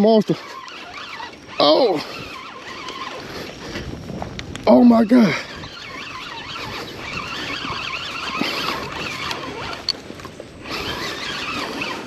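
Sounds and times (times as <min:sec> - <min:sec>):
fishing reel squealing and whirring: 0:00.0 - 0:12.0.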